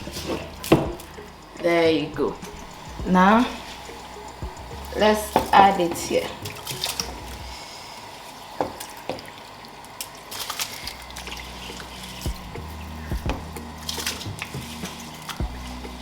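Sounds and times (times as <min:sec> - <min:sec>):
low steady hum: 0:00.0 - 0:09.4, 0:10.7 - 0:16.0
water trickling and dripping: 0:00.0 - 0:16.0.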